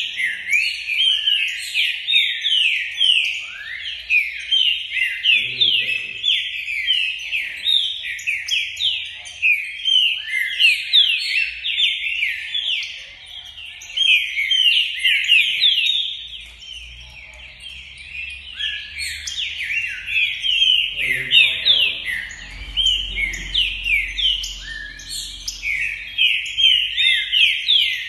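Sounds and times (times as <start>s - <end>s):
songbird singing whistled notes: 0.0s - 28.0s.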